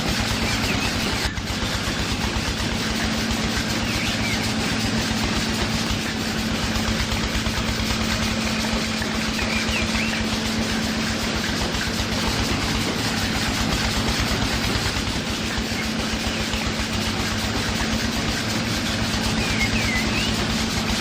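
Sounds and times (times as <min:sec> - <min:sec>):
motor humming with low pulsing: 0:00.0 - 0:21.0.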